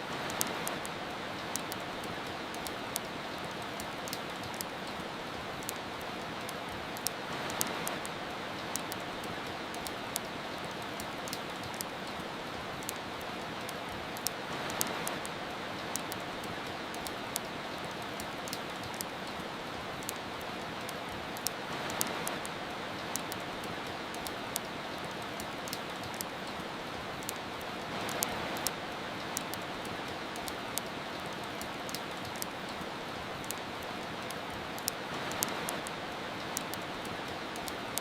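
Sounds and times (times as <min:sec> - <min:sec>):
rain hiss: 0:00.0 - 0:38.0
wood fire crackling and popping: 0:00.1 - 0:38.0.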